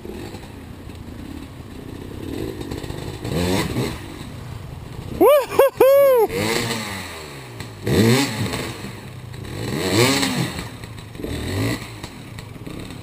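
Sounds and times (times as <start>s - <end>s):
dirt bike engine revving: 1.2s - 13.0s.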